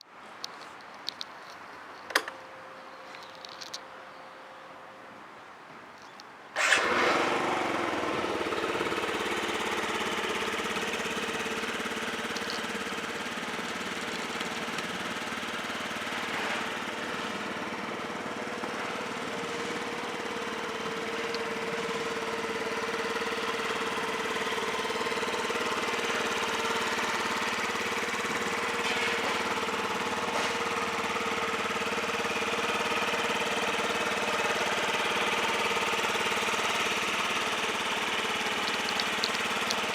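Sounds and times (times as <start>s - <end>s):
scooter engine starting and idling: 6.6s - 39.9s.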